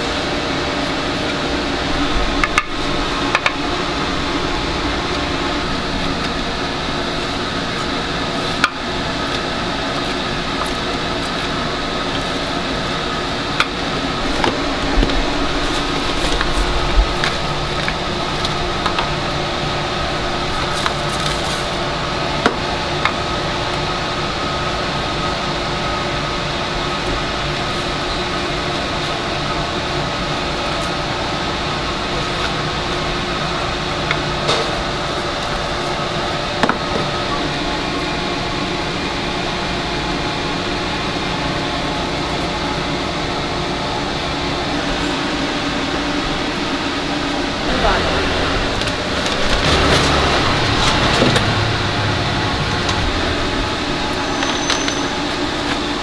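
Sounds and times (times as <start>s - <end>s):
fan motor humming: 0.0s - 56.0s.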